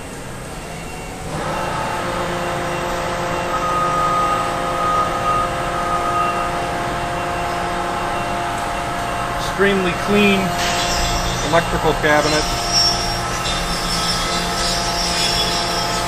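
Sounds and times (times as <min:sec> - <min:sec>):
industrial machinery hum: 0:00.0 - 0:16.0
steady whining tones: 0:00.0 - 0:16.0.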